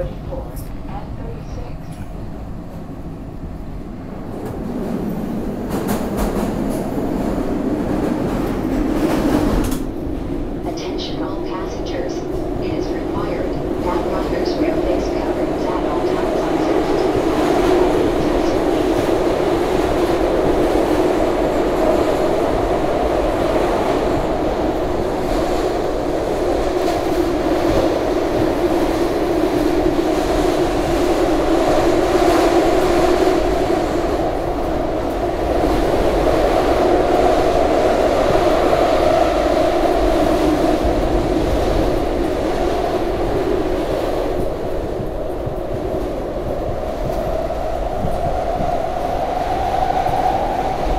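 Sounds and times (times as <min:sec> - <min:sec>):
subway train roaring in tunnel: 0:00.0 - 0:50.9.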